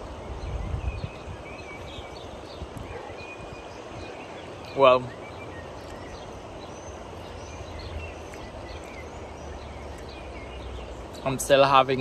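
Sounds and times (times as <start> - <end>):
faint bird chirps: 0.1 - 12.0.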